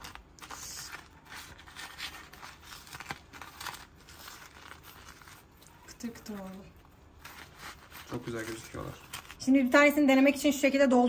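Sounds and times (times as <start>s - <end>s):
sugar crunching and rustling: 0.0s - 9.8s.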